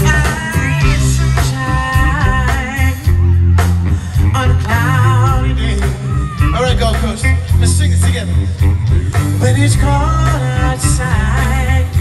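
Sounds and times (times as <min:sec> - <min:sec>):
live band with vocals: 0:00.0 - 0:12.0.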